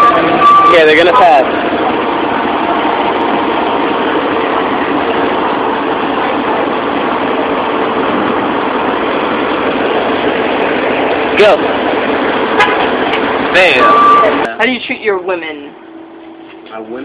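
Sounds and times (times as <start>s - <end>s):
bus engine droning: 0.0s - 17.0s
street traffic noise: 0.0s - 17.0s.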